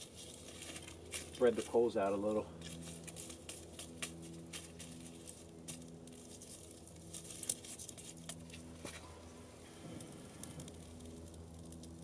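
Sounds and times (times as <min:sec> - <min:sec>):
campfire coals crackling: 0:00.0 - 0:12.0.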